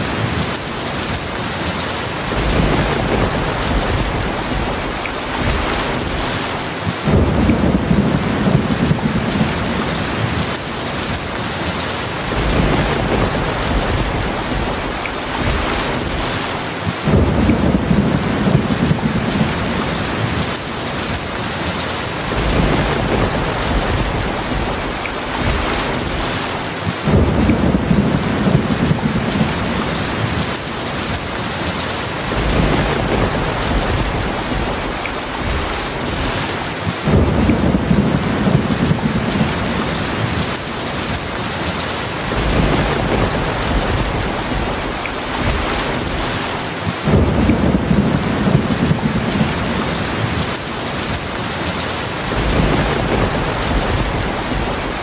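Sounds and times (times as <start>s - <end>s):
heavy rain falling: 0.0s - 55.0s
low thunder rumbles: 2.2s - 11.4s, 12.0s - 21.2s, 22.2s - 31.2s, 32.0s - 41.5s, 42.2s - 55.0s.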